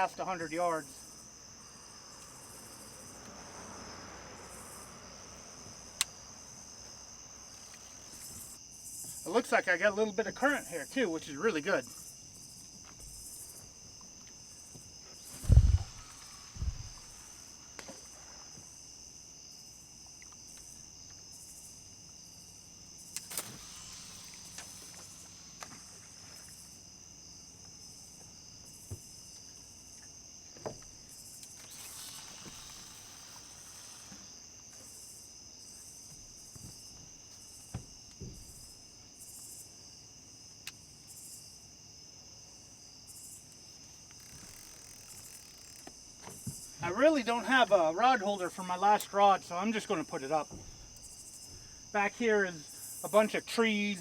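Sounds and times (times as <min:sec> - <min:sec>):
high-pitched insect trill: 0:00.0 - 0:54.0
pulsing insect chirp: 0:00.0 - 0:54.0.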